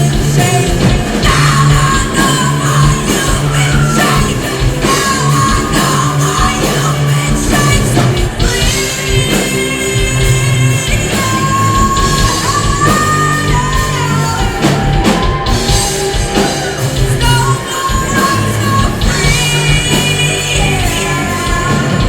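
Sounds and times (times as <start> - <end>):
loud rock music with singing: 0.0 - 22.0.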